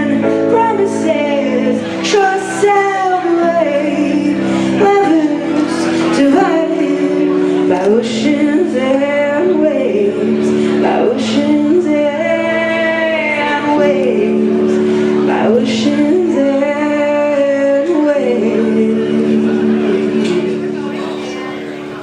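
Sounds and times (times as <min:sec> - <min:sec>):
sliding melody of held notes: 0:00.0 - 0:22.0.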